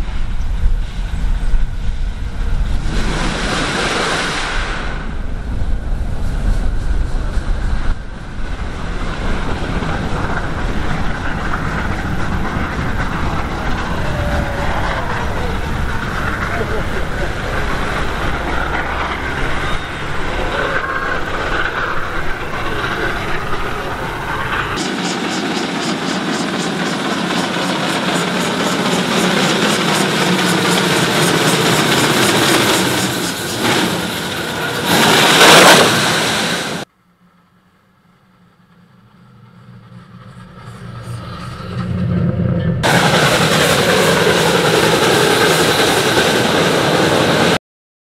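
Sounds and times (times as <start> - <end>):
loud rush of noise: 0.0 - 36.9, 39.8 - 47.6
steam locomotive chuffing: 6.3 - 36.9, 39.1 - 47.6.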